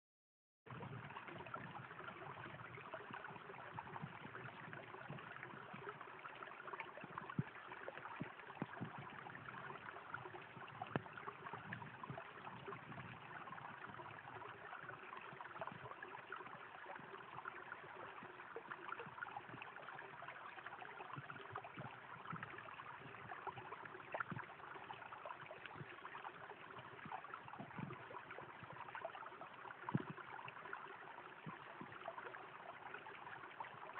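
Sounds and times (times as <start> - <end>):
brook trickling over stones: 0.7 - 33.9.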